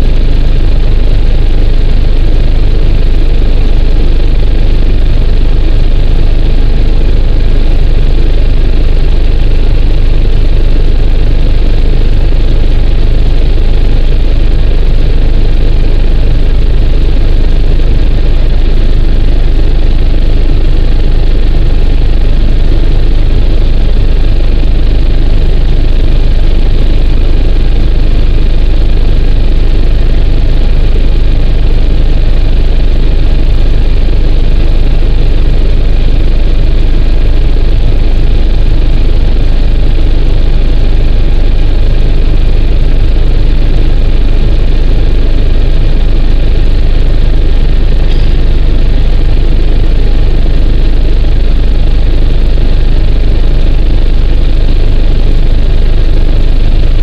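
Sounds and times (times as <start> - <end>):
helicopter rotor and engine drone: 0.0 - 46.6, 47.2 - 48.1, 50.5 - 51.6.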